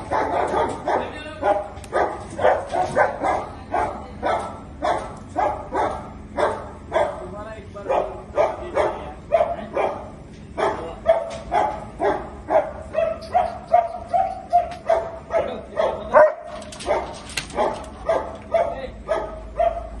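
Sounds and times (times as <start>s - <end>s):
dog barking angrily: 0.0s - 20.0s.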